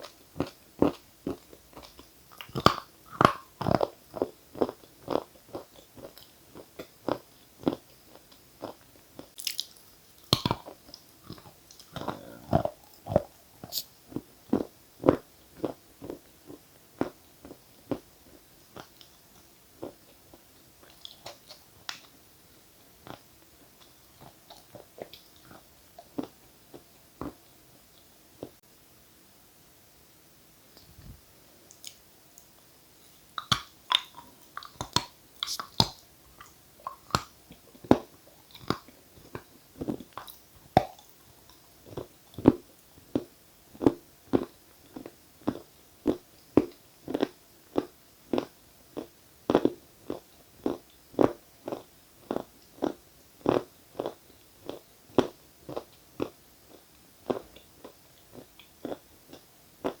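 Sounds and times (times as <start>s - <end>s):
person chewing: 0.0s - 22.1s, 23.0s - 27.4s, 33.3s - 60.0s.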